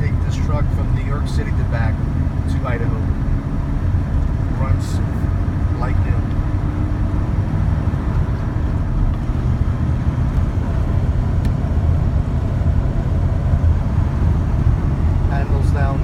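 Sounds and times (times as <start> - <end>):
engine and road noise in cab: 0.0 - 16.0.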